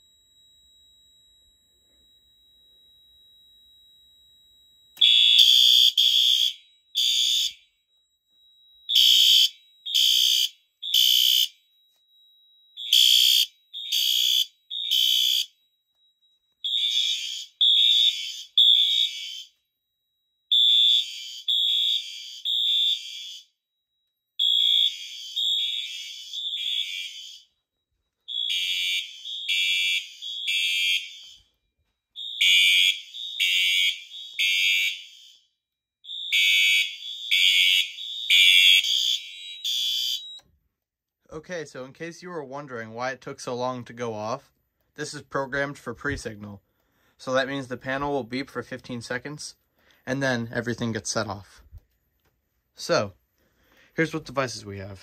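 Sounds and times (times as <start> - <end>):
fire alarm horns blasting: 0.0 - 0.7, 1.4 - 40.5, 41.3 - 51.6, 52.7 - 55.0.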